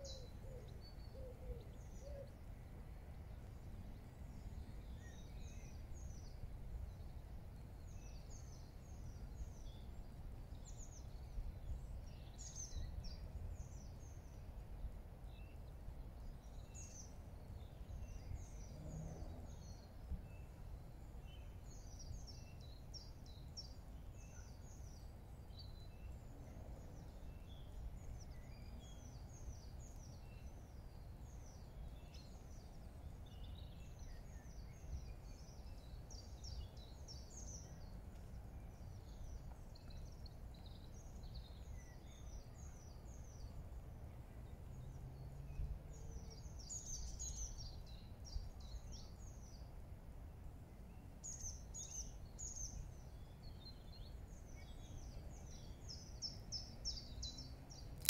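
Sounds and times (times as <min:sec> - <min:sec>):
birds chirping and twittering: 0:00.0 - 0:49.8, 0:50.6 - 0:58.0
faint low rumble: 0:00.0 - 0:58.0.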